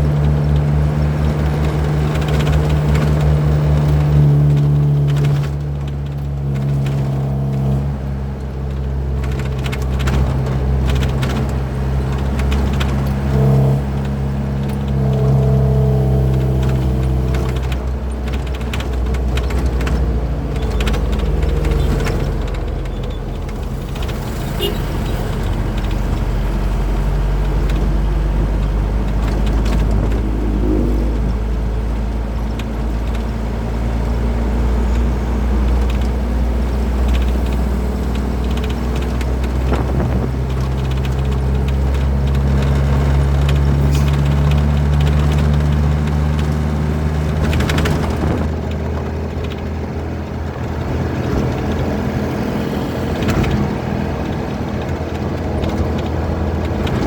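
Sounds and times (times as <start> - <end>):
road noise: 0.0 - 57.0
truck diesel engine running: 0.0 - 57.0.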